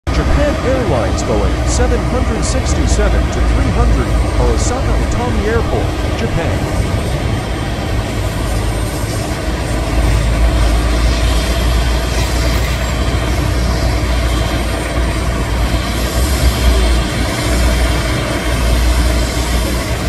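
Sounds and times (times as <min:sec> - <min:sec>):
jet aircraft rumble and hiss: 0:00.1 - 0:20.0.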